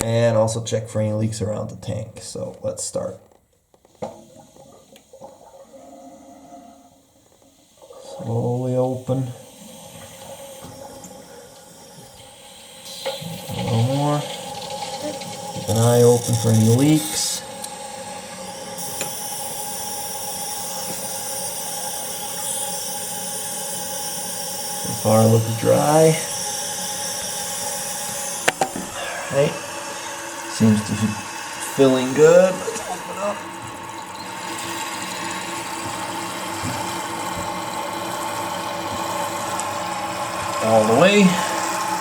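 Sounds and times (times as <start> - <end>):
toilet tank refilling: 3.8 - 42.0.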